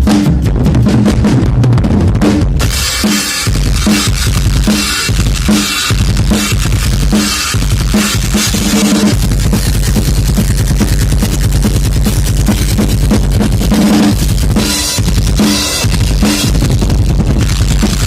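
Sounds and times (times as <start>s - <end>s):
cymbals: 2.6s - 18.0s.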